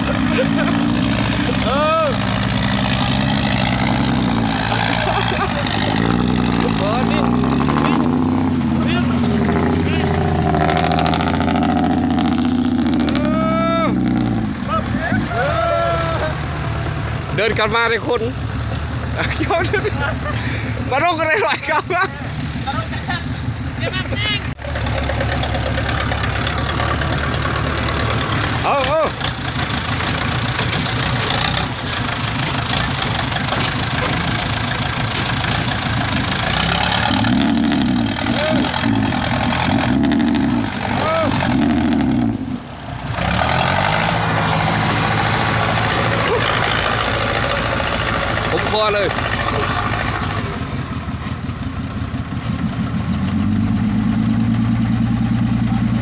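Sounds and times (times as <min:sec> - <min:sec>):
diesel truck engine running: 0:00.0 - 0:56.0
engine clatter: 0:00.0 - 0:56.0.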